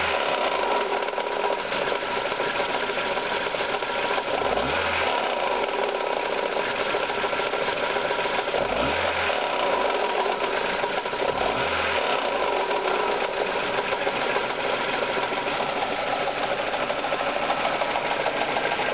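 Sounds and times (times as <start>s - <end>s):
car engine knocking: 0.0s - 18.9s.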